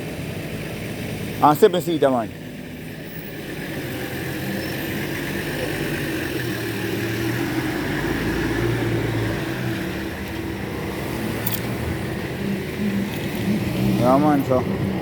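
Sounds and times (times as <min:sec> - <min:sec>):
traffic noise: 0:00.0 - 0:15.0
vehicle engine running: 0:00.0 - 0:15.0.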